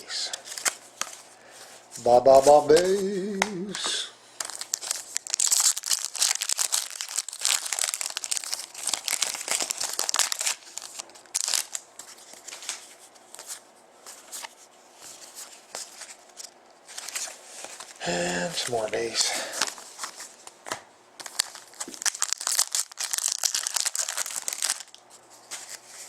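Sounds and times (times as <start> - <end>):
cards and wrapper rustling: 0.1 - 26.0.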